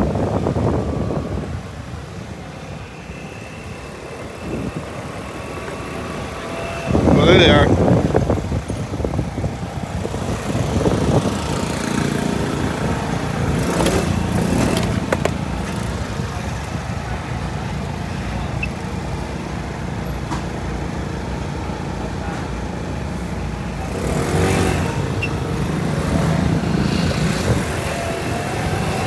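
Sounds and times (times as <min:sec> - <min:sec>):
motor scooter engine: 0:00.0 - 0:29.0.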